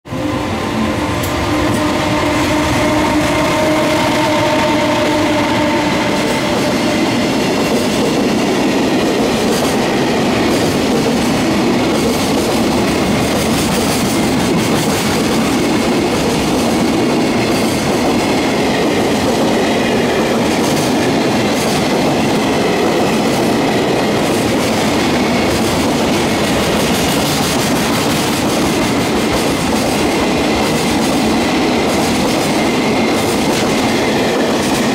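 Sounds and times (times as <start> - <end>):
electric locomotive whine: 0.0 - 34.9
freight train rumble: 0.0 - 34.9.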